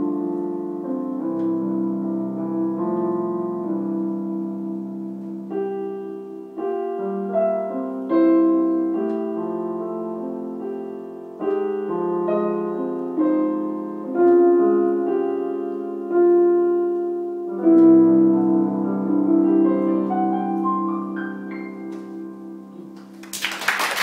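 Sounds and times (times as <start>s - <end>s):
solo piano piece: 0.0s - 23.3s.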